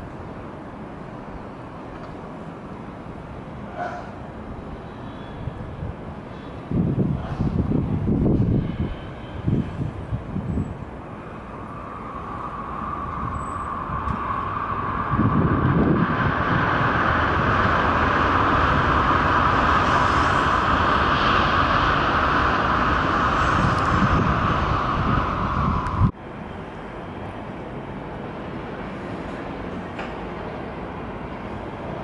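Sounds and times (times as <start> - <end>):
train rushing past: 0.0 - 32.0.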